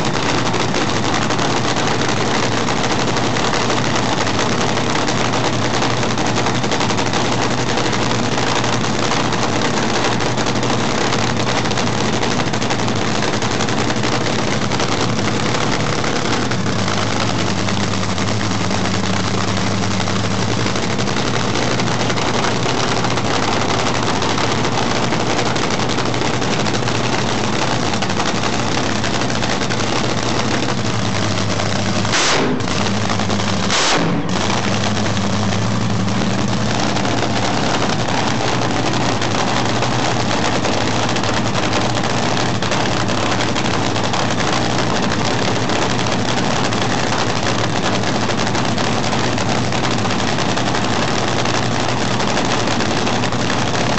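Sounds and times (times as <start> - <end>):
dragster engine crackling: 0.0 - 53.9.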